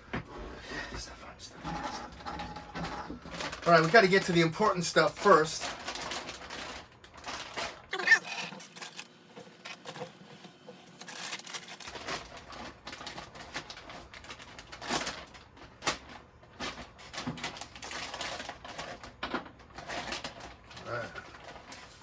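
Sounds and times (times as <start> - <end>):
plastic packaging crinkling: 2.8 - 22.0.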